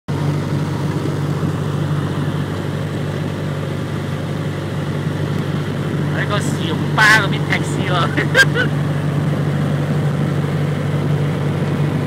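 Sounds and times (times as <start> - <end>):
propeller plane engine drone: 0.1 - 12.0.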